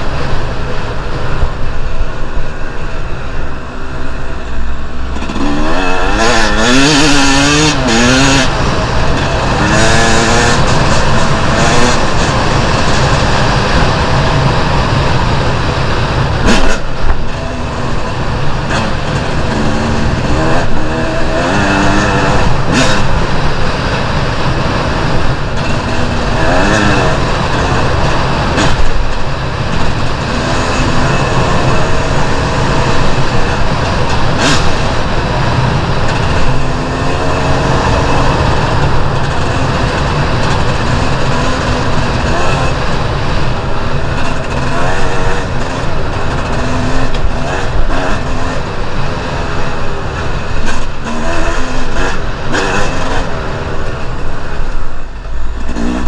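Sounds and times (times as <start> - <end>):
constant rushing noise: 0.0 - 56.0
dirt bike engine revving: 0.0 - 56.0.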